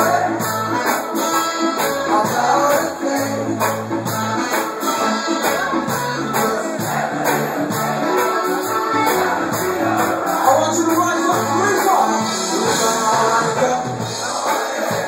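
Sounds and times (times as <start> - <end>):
bass line: 0.0 - 14.4
drums keeping steady beat: 0.0 - 15.0
reggae band playing live: 0.0 - 15.0.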